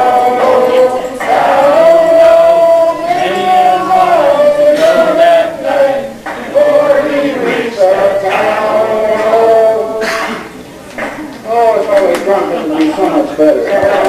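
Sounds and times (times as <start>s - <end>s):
men singing together: 0.0s - 10.5s, 13.0s - 14.0s.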